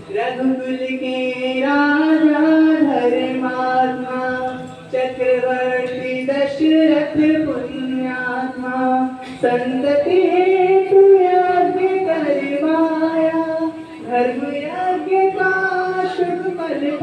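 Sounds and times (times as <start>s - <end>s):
man singing through loudspeaker: 0.0s - 17.0s.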